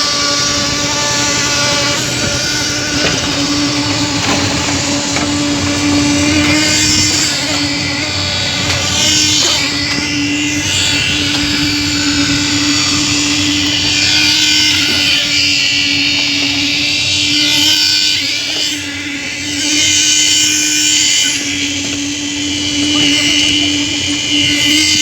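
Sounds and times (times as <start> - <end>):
machine motor humming: 0.0 - 25.0.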